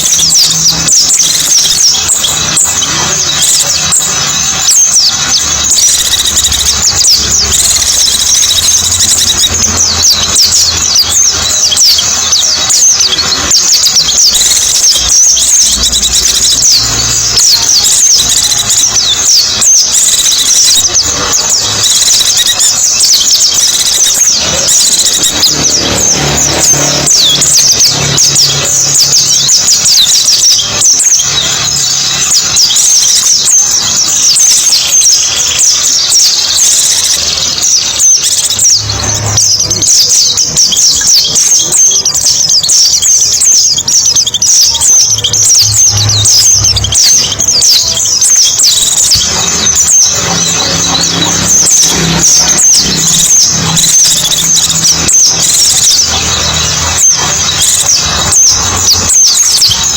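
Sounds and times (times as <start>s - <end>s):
small birds twittering chorus: 0.0s - 59.9s.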